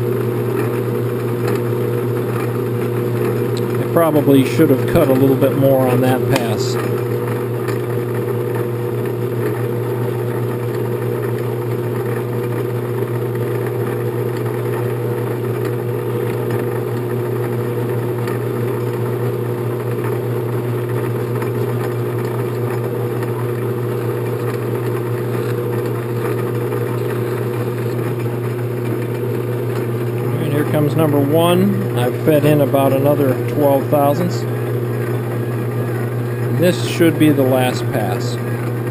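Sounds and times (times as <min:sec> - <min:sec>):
metal lathe humming: 0:00.0 - 0:38.9.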